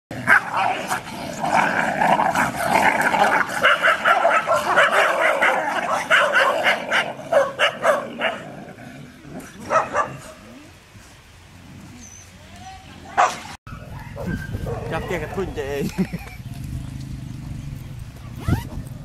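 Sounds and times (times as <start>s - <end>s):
dogs barking and growling: 0.1s - 10.8s, 13.0s - 19.0s.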